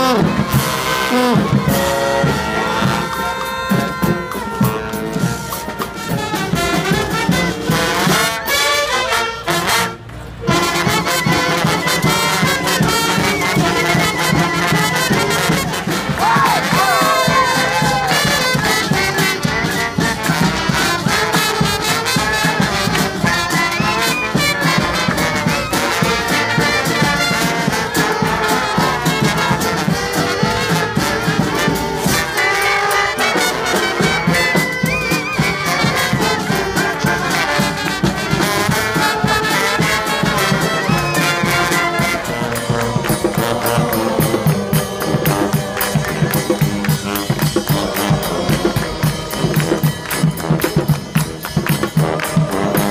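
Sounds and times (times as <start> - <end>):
brass band playing: 0.0 - 52.9.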